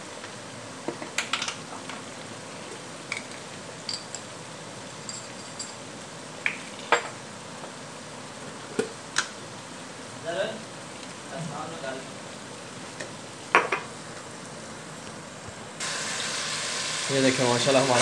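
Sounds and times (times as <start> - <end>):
masala sizzling in oil: 0.0 - 18.0.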